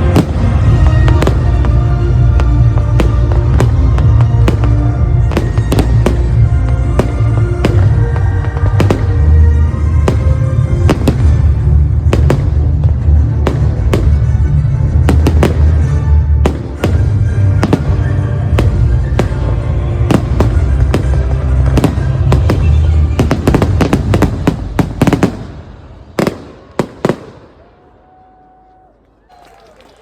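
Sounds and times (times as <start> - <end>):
fireworks bangs and crackles: 0.0 - 27.7
continuous low rumble: 0.0 - 30.0.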